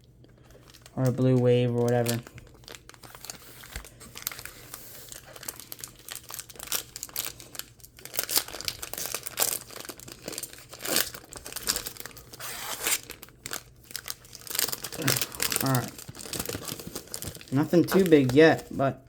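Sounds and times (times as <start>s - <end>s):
foil wrappers crackling: 0.0s - 19.0s.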